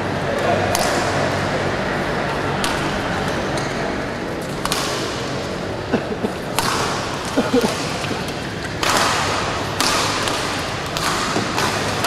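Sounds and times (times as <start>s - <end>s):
murmur of sports hall: 0.0s - 12.0s
racket hitting shuttlecock: 0.4s - 1.4s, 2.6s - 12.0s.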